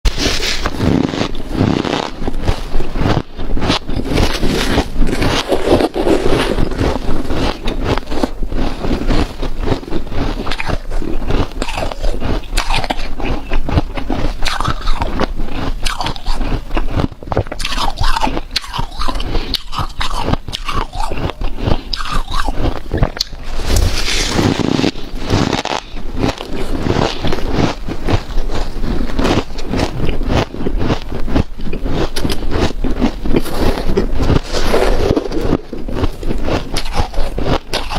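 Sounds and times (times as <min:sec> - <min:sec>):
chewing crunchy ice: 0:00.1 - 0:37.9.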